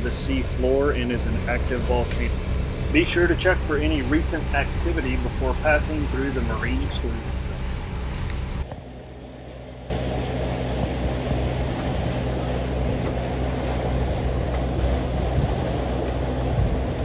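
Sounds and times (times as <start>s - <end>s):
boat engine droning: 0.0s - 17.0s
wind and water rushing: 0.0s - 17.0s.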